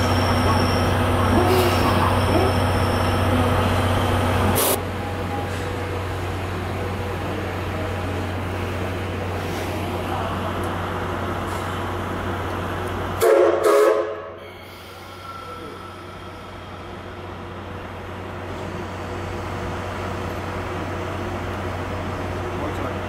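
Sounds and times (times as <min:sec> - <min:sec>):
trains humming and rumbling: 0:00.0 - 0:23.0.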